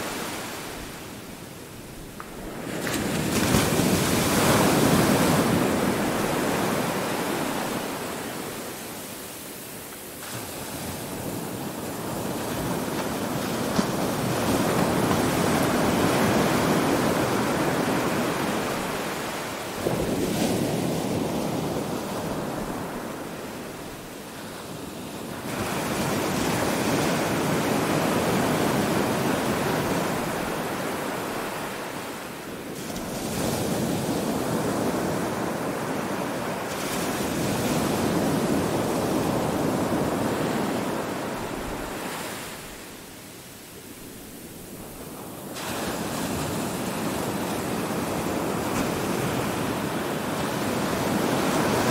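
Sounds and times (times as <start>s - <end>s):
ocean surf breaking on beach: 0.0s - 51.9s.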